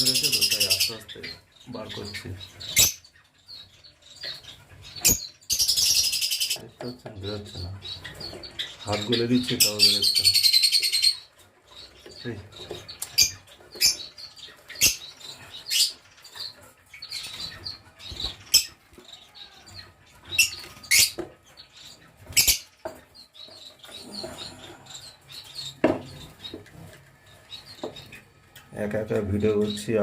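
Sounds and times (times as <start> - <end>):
birds twittering: 0.0 - 30.0
sharp loud bird calls: 0.0 - 30.0.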